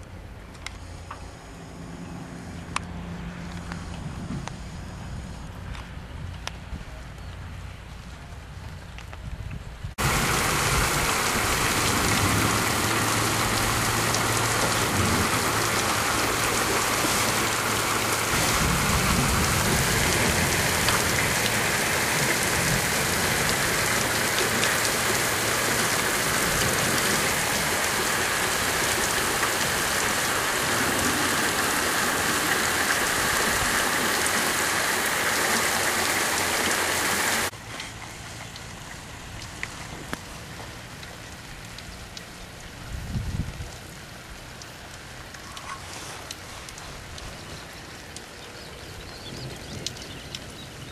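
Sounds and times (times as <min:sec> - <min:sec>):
heavy rain hissing: 0:10.0 - 0:50.9.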